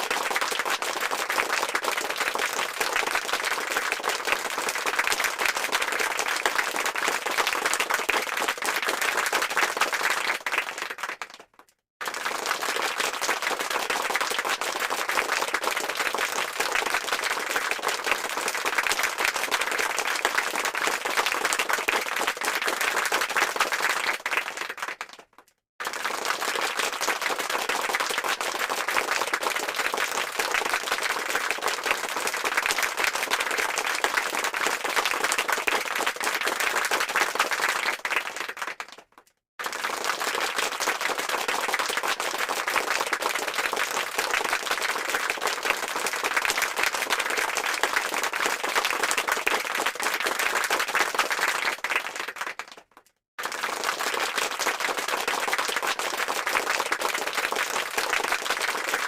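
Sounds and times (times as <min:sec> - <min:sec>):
crowd applause: 0:00.0 - 0:59.0.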